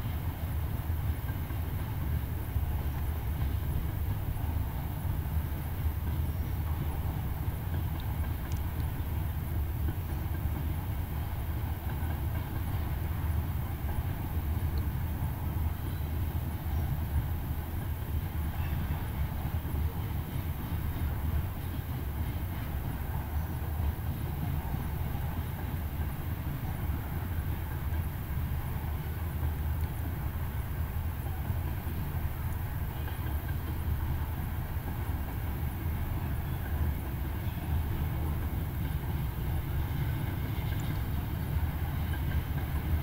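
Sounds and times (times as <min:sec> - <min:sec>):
distant freight train rumble: 0:00.0 - 0:43.0.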